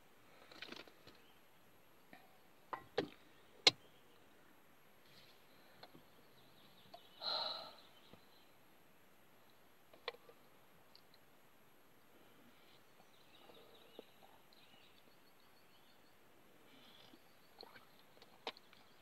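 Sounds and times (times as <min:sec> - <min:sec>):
faint distant birdsong: 0:00.0 - 0:19.0.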